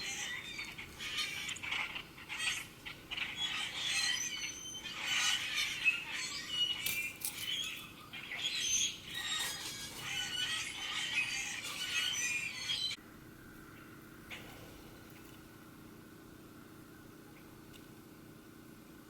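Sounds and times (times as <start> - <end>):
songbirds chirping and trilling: 0.0 - 18.7.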